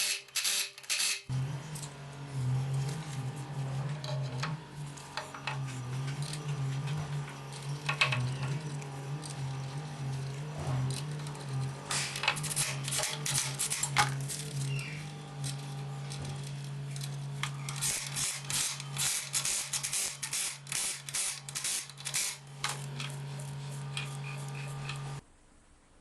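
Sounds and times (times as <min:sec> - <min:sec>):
steady low hum: 0:01.3 - 0:26.0.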